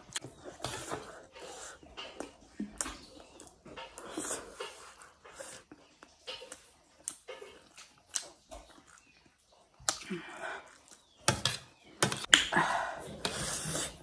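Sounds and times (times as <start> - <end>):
close chewing: 0.0 - 11.2.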